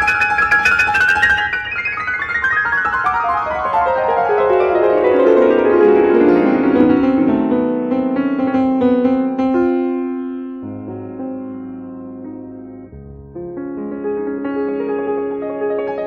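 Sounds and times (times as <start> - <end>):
grand piano playing: 0.0 - 16.0.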